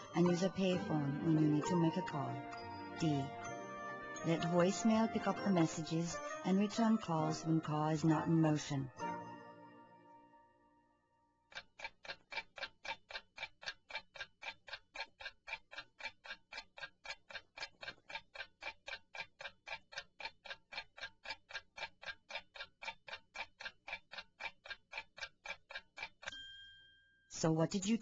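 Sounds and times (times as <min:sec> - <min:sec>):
clock ticking: 0:00.0 - 0:09.6, 0:11.5 - 0:26.4, 0:27.4 - 0:28.0.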